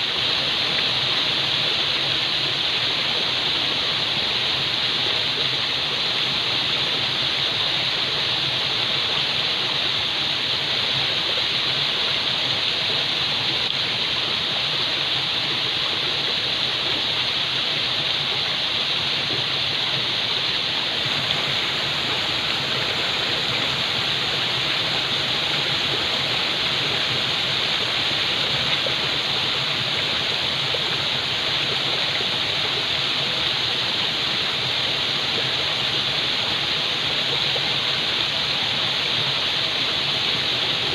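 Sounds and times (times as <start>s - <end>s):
falling water rushing: 0.0s - 40.9s.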